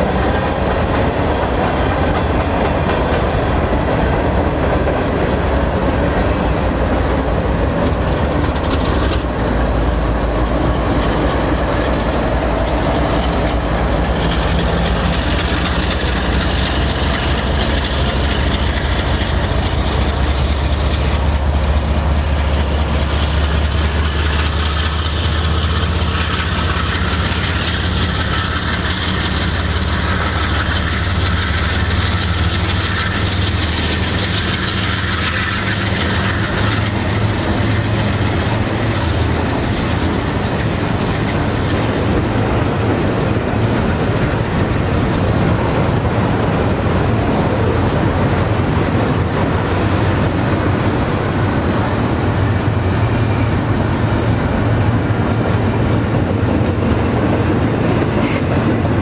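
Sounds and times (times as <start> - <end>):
diesel locomotive drone: 0.0 - 59.0
train wheels rumbling and clacking: 0.0 - 59.0.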